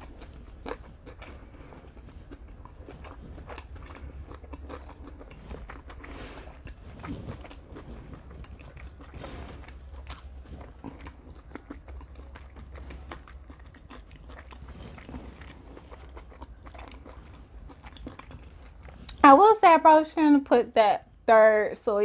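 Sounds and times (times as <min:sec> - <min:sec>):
person chewing food: 0:00.0 - 0:19.2.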